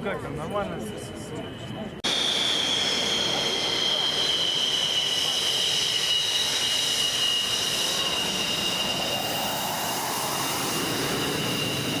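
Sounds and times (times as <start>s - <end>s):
turbine whine: 0.0s - 12.0s
rushing jet exhaust: 2.0s - 12.0s.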